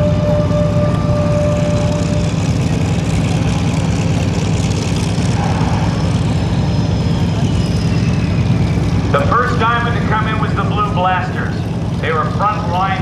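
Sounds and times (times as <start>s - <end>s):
jet engines: 0.0s - 13.0s.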